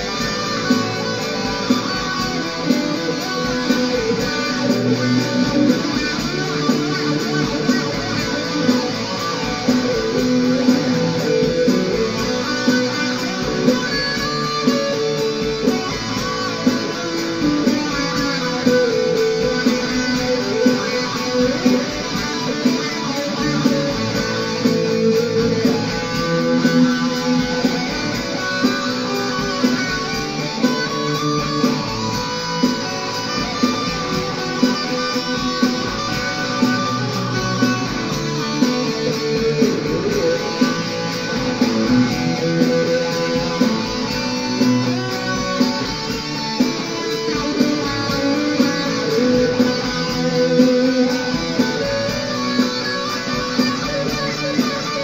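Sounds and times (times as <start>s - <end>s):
plucked guitar music: 0.0s - 55.0s.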